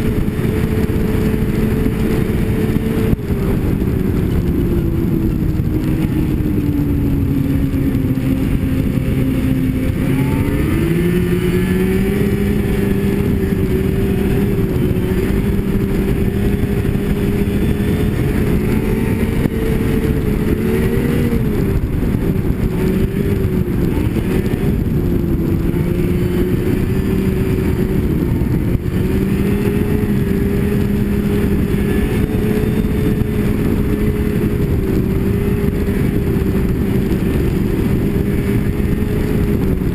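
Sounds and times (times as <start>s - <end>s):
snowmobile engine drone: 0.0s - 39.9s
track noise: 0.0s - 39.9s
wind rushing: 0.0s - 39.9s.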